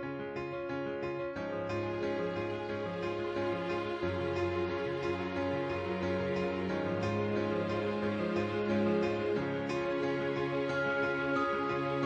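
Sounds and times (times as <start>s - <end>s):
soft slow music: 0.0s - 12.0s.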